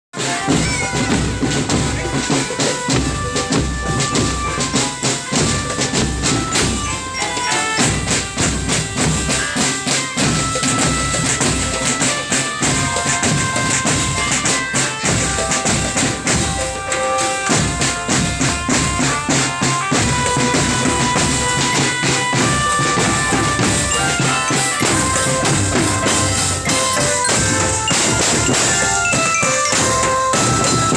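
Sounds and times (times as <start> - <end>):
marching drum band playing: 0.1 - 30.9.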